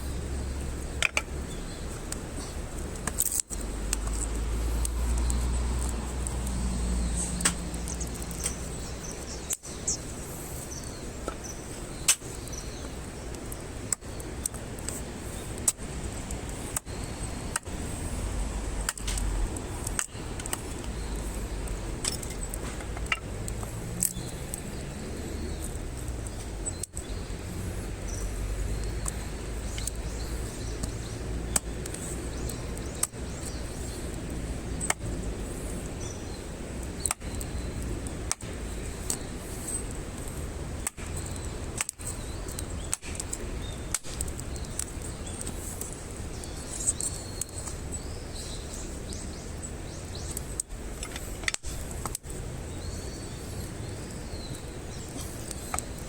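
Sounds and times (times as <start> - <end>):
campfire crackling and popping: 0.0 - 56.0
fire hissing and rumbling: 0.0 - 56.0.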